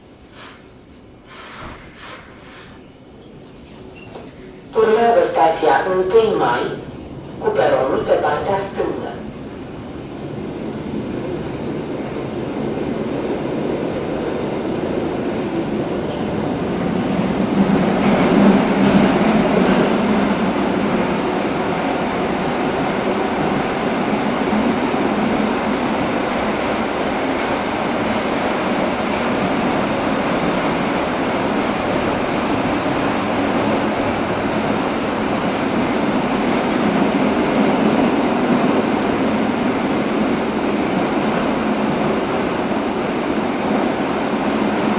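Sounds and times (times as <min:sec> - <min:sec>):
subway car running noise: 0:00.0 - 0:44.9.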